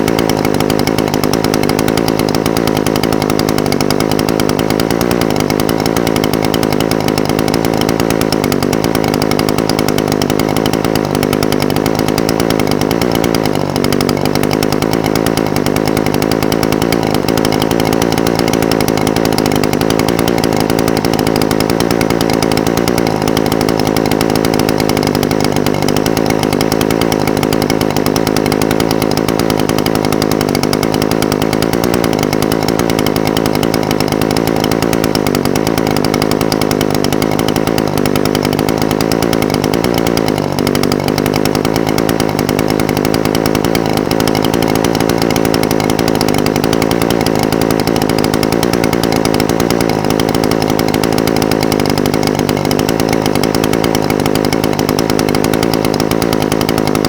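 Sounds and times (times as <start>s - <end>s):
brush cutter engine idling: 0.0s - 57.0s.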